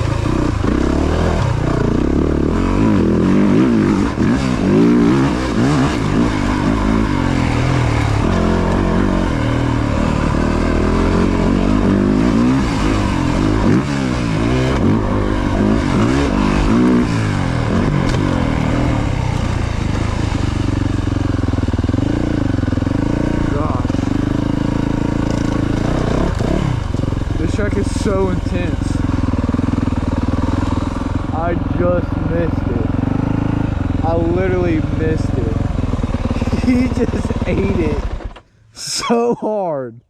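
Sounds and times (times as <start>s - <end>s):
dirt bike engine revving: 0.0s - 39.4s.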